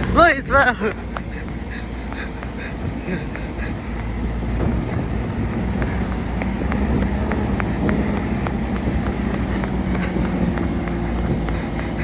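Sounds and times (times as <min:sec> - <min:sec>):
coach engine rumbling: 0:00.0 - 0:12.0
light regular ticking: 0:00.0 - 0:12.0.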